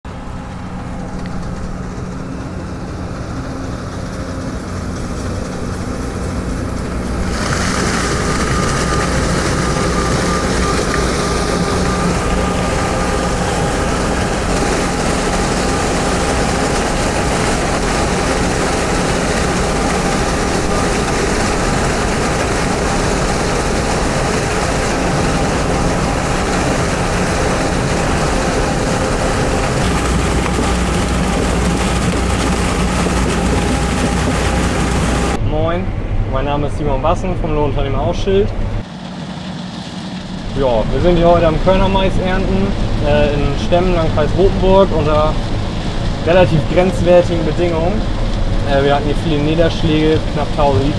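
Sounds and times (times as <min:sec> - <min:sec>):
combine harvester engine hum: 0:00.0 - 0:50.9
machinery high whine: 0:00.0 - 0:50.9.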